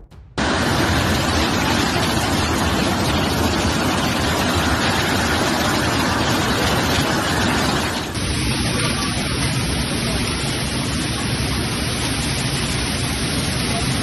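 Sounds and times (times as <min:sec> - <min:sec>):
floodwater rushing: 0:00.4 - 0:14.0
heavy rain: 0:00.4 - 0:14.0.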